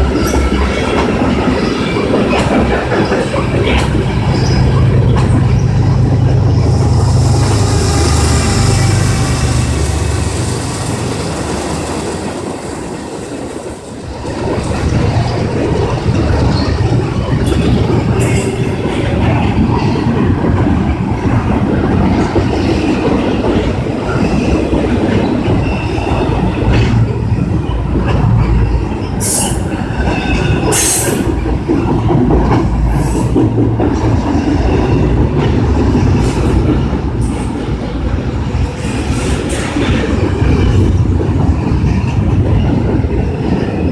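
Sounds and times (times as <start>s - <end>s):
freight train wheels clattering: 0.0s - 43.9s.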